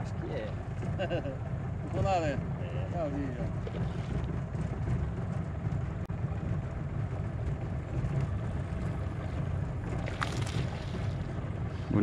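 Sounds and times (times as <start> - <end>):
outboard motor running: 0.0 - 12.0
water noise: 0.0 - 12.0.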